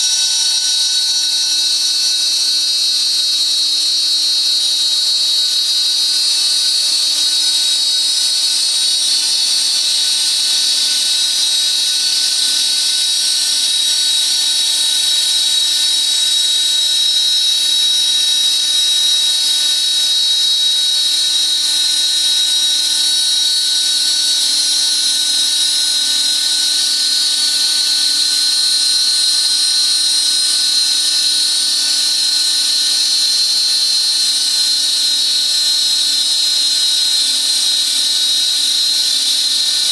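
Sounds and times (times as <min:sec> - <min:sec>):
machine spindle whining: 0:00.0 - 0:39.9.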